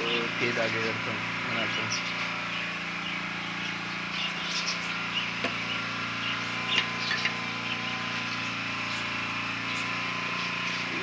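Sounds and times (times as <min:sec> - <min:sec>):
high bird chirps: 0:00.0 - 0:11.0
low mechanical hum: 0:00.0 - 0:11.0.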